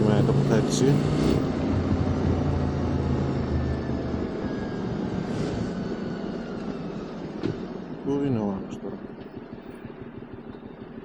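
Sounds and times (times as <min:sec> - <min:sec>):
motorcycle engine running: 0:00.0 - 0:05.1, 0:06.1 - 0:11.0
wind and road noise: 0:00.0 - 0:11.0.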